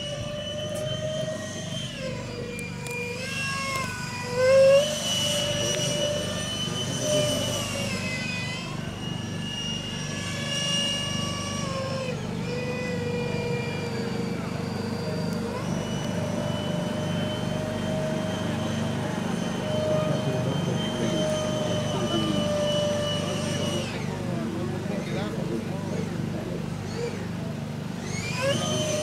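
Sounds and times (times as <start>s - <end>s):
model jet ducted fan whine: 0.0s - 29.0s.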